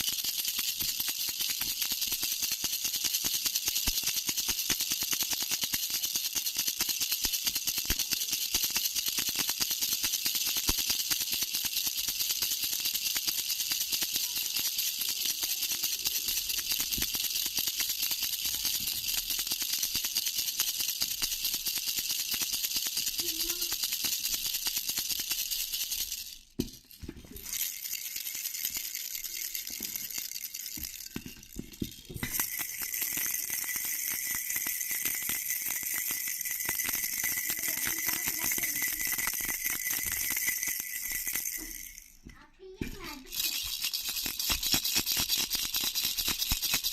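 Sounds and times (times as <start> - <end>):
baby's bell rattle jingling: 0.0 - 46.9.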